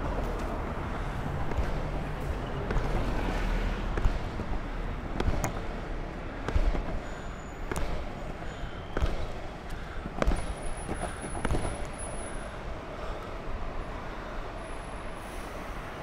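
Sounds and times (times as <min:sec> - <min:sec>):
longboard wheels rolling on asphalt: 0:00.0 - 0:16.0.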